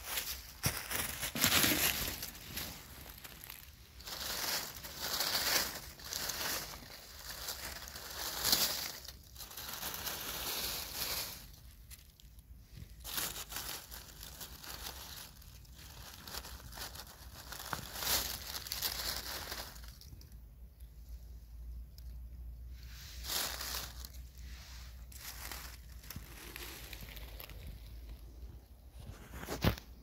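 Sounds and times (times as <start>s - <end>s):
dry leaves rustling and crunching: 0.0s - 20.4s, 22.0s - 29.8s.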